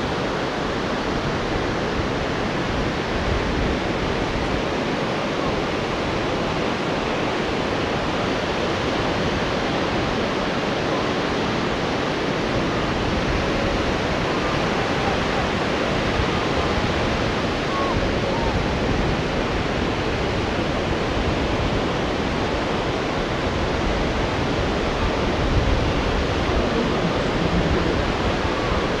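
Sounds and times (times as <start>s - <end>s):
waves breaking: 0.0s - 29.0s
wind blowing: 0.0s - 29.0s.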